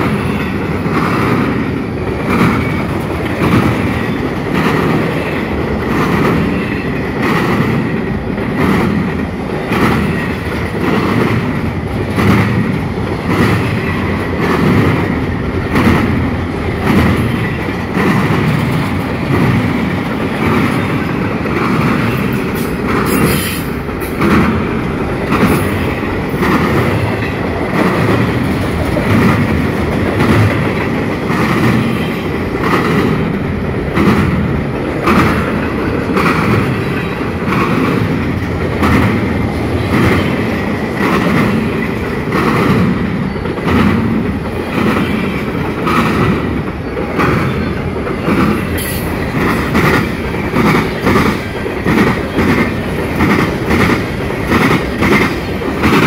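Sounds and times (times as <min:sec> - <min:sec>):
train wheels clattering over crossing: 0:00.0 - 0:56.0.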